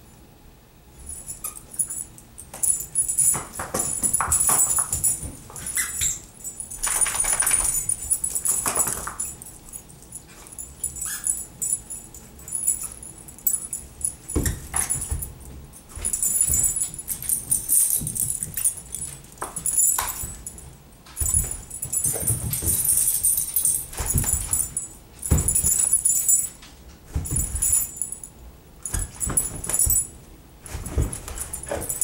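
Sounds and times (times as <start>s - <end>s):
paws scuffing and thumping on carpet: 1.1s - 28.2s, 28.8s - 32.0s
metal collar tags jingling: 1.1s - 32.0s.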